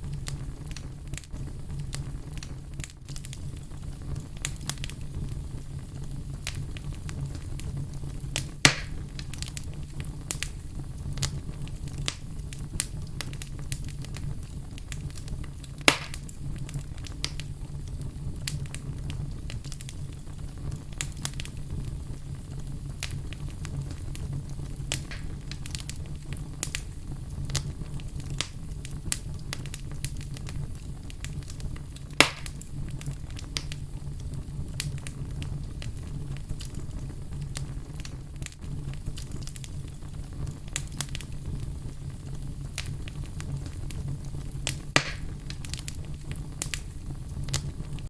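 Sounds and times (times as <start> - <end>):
fire crackling: 0.0 - 48.0
loud fire pops: 0.0 - 48.0.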